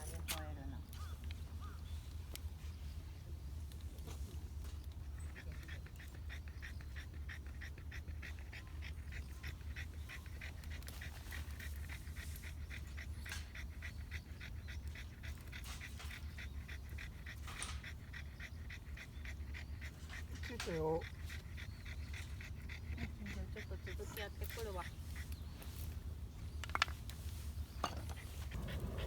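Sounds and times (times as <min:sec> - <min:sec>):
dog panting rapidly: 0:02.5 - 0:29.0.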